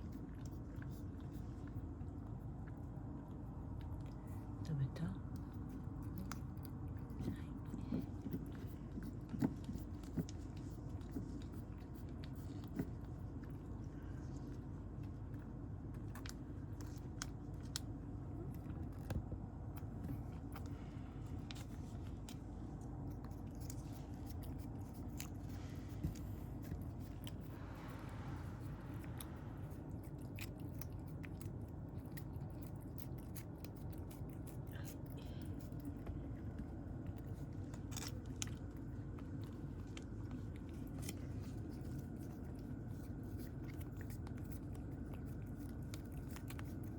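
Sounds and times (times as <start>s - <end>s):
cat crunching dry kibble: 0.0s - 46.9s
steady low hum: 0.0s - 46.9s.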